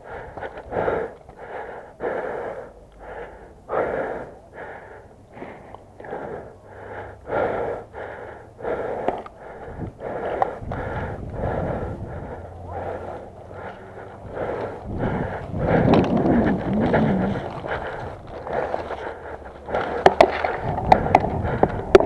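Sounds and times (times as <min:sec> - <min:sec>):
person breathing heavily: 0:00.0 - 0:22.0.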